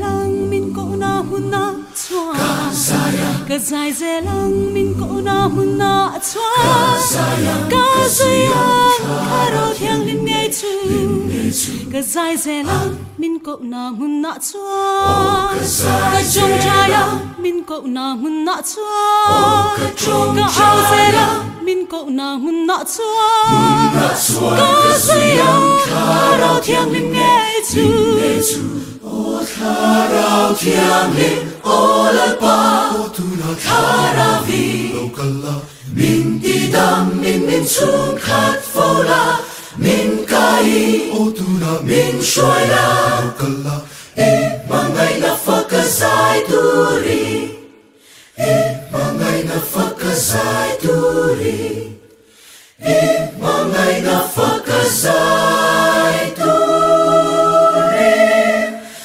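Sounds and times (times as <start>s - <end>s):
choir singing in harmony: 0.0s - 13.5s, 14.7s - 59.0s.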